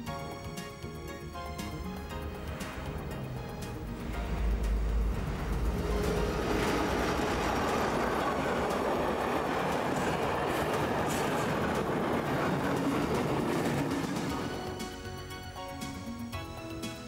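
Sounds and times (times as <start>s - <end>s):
train wheels rumbling on rails: 0.5s - 17.0s.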